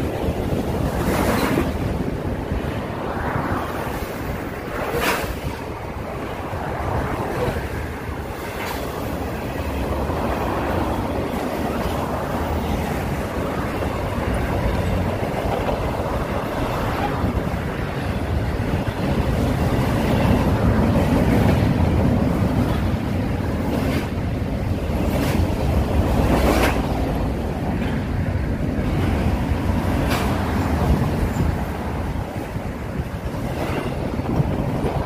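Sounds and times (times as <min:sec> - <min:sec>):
train wheels on rail: 0:00.0 - 0:35.0
wind on microphone: 0:00.0 - 0:35.0.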